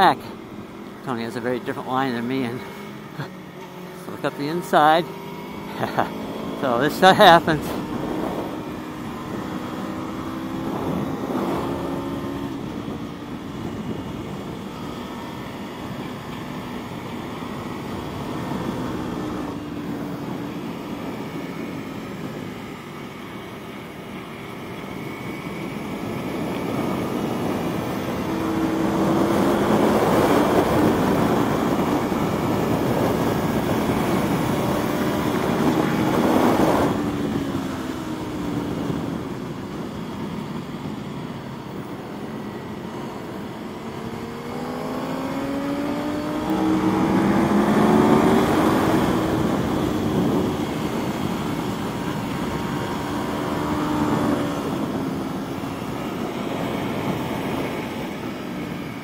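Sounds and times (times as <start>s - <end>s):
motorcycle engine revving: 1.6s - 59.0s
wind noise: 7.2s - 22.8s, 25.0s - 59.0s.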